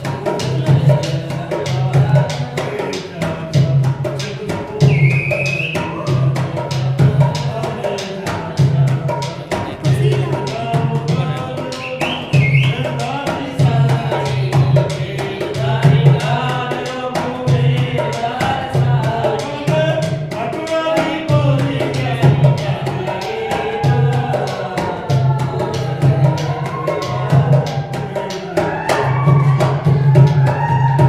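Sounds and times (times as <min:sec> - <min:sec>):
hand drum beating: 0:00.0 - 0:31.0
person singing: 0:00.0 - 0:31.0.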